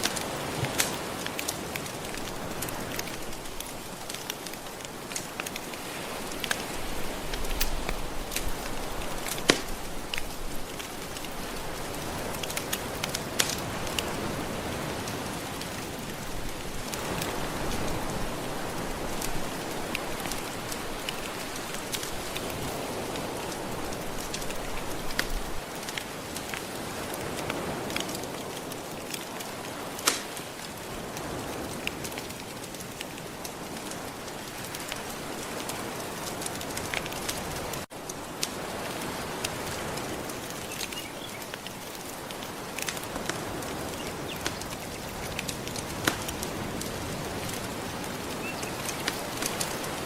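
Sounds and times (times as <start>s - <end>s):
gentle ocean waves: 0.0s - 50.0s
wood fire crackling: 0.0s - 50.0s.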